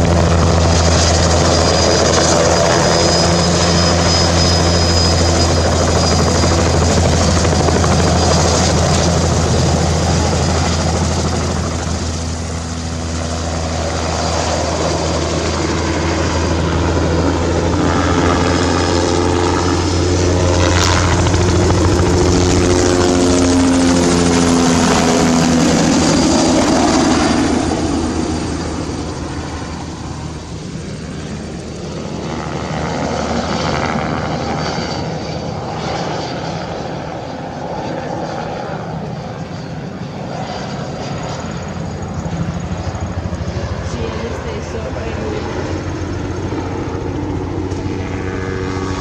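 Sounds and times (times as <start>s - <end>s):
helicopter flying overhead: 0.0s - 49.0s.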